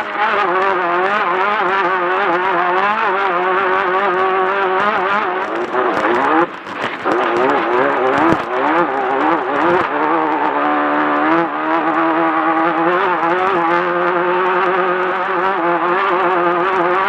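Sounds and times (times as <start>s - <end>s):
race car engine running hard: 0.0s - 17.0s.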